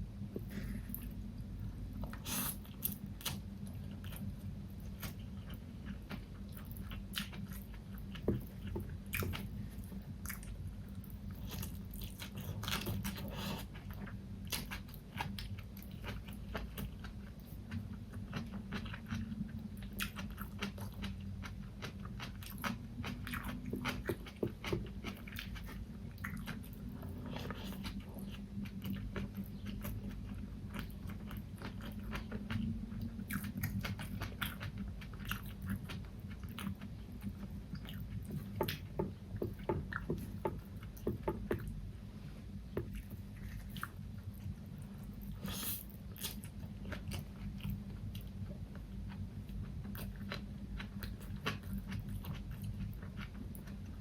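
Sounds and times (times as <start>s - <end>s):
steady low hum: 0.0s - 54.0s
chewing with crunches: 2.0s - 41.8s, 42.4s - 54.0s.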